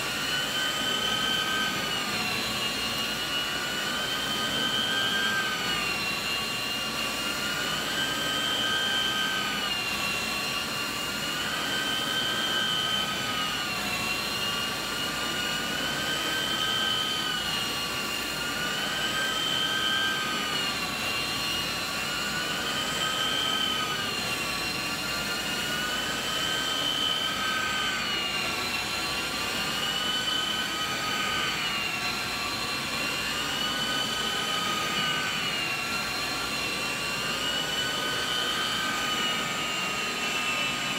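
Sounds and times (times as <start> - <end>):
carpet extraction tool whistling whine: 0.0 - 40.9.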